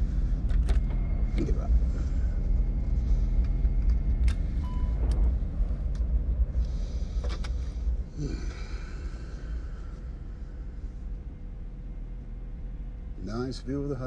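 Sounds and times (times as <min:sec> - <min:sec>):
airliner engines rumbling: 0:00.0 - 0:14.0.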